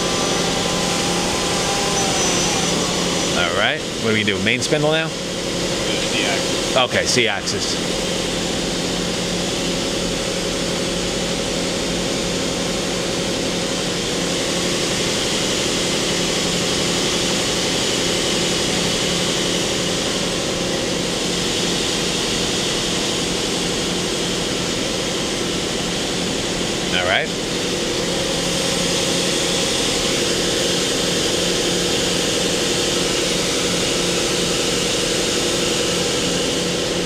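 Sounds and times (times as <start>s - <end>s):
machine hum with steady tones: 0.0s - 37.0s.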